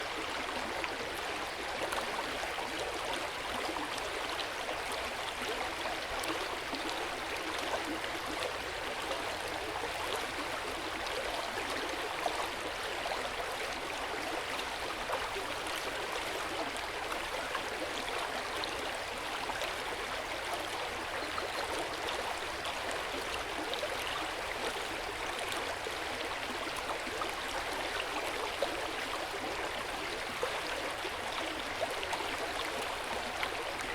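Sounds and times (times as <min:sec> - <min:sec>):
stream babbling over rocks: 0:00.1 - 0:33.9.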